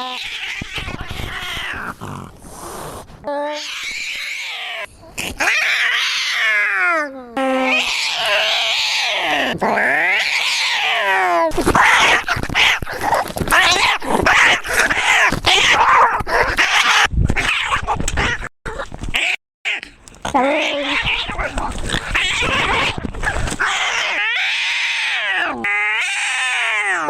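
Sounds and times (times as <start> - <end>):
cat yowling: 0.0 - 2.0, 3.5 - 18.4, 20.5 - 27.0.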